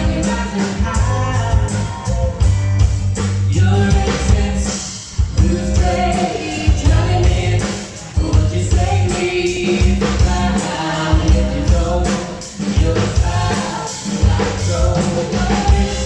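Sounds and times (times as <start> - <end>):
lead singer singing: 0.0 - 2.5, 3.5 - 16.0
drum kit steady beat: 0.0 - 16.0
electric bass: 0.0 - 16.0.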